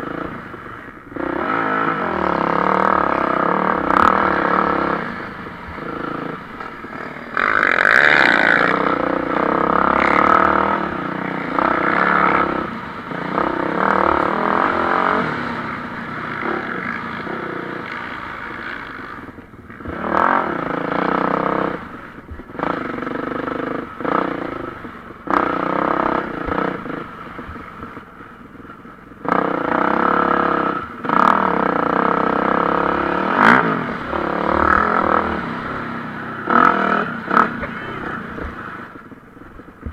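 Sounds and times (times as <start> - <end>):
motocross engines revving: 0.0 - 28.1, 29.2 - 39.9.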